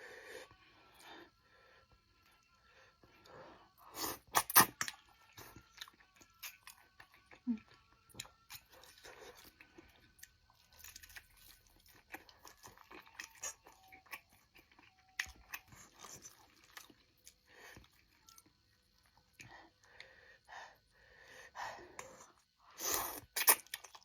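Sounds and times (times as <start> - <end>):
person chewing food: 2.0 - 20.8, 21.9 - 24.0.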